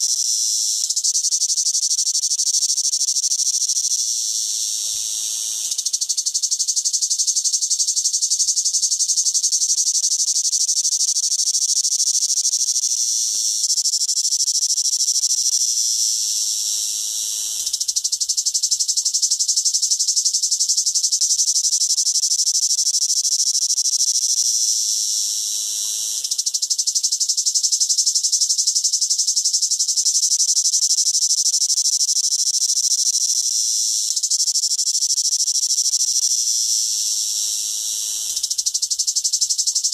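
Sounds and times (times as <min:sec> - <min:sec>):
cicada buzzing: 0:00.0 - 0:39.9.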